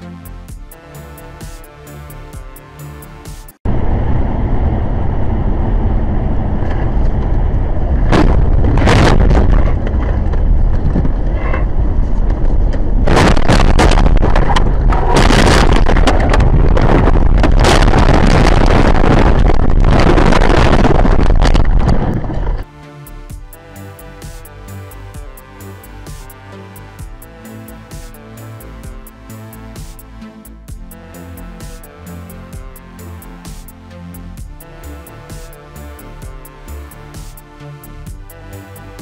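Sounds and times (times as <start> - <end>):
road and wind noise: 2.9 - 39.0.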